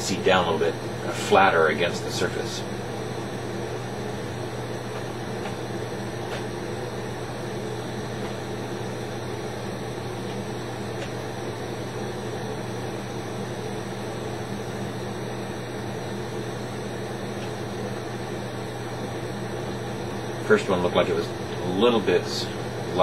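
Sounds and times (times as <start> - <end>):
low hum: 0.0 - 23.0
torch flame hissing: 0.0 - 23.0.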